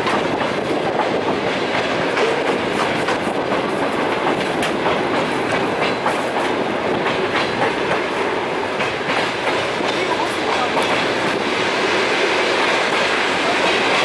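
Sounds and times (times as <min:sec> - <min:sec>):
wheels clicking over rail joints: 0:00.0 - 0:12.2
train running rumble: 0:00.0 - 0:14.0.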